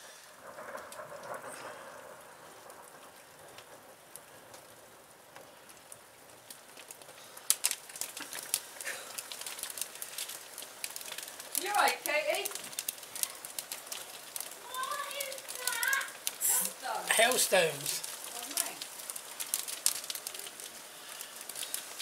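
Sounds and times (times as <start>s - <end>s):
hailstones ticking on glass: 0.0s - 22.0s
rain on a window: 0.0s - 22.0s.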